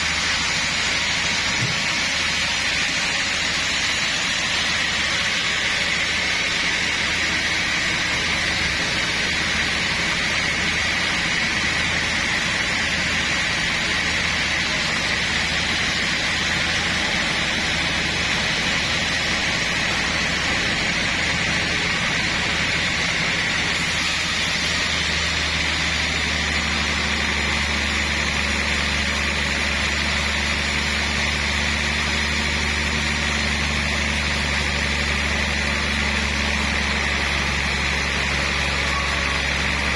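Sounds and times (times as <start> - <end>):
engine drone: 0.0 - 39.9
high machine whine: 0.0 - 39.9.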